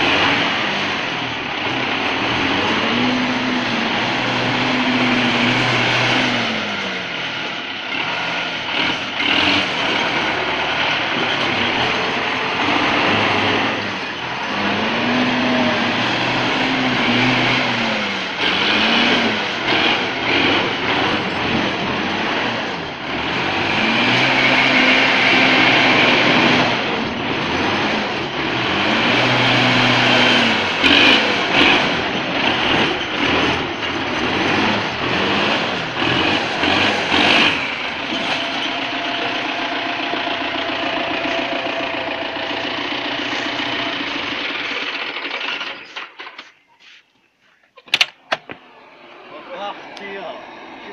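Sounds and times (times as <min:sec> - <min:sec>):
tractor engine revving: 0:00.0 - 0:50.9.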